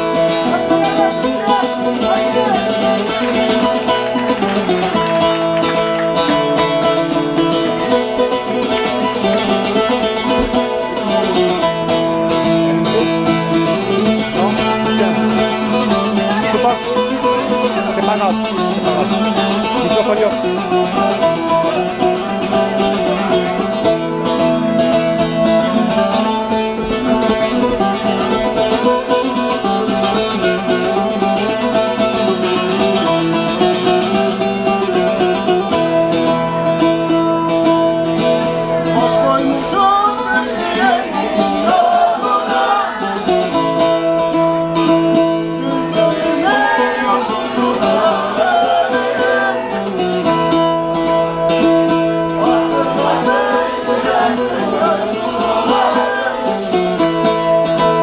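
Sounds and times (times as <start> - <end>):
plucked long-necked lute tune: 0.0 - 58.0.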